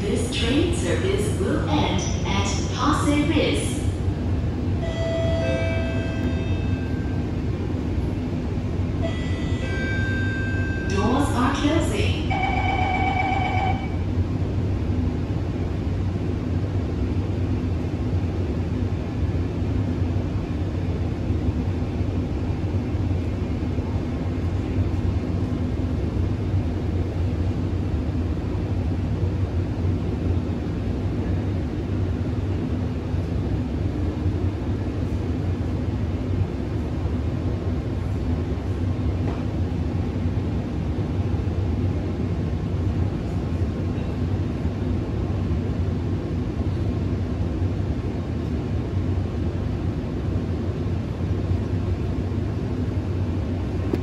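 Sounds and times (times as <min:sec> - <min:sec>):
metro cabin rumble and hum: 0:00.0 - 0:54.0.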